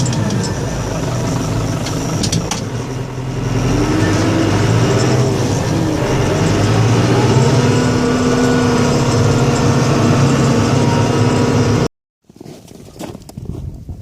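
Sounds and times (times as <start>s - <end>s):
plow vehicle engine running: 0.0s - 11.9s.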